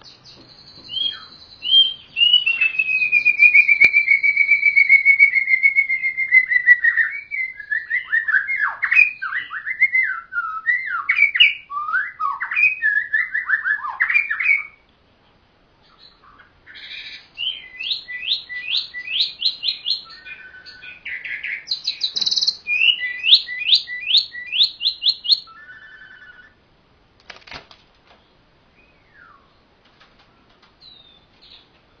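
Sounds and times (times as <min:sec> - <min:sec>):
songbird singing: 0:00.0 - 0:26.6, 0:28.0 - 0:32.0.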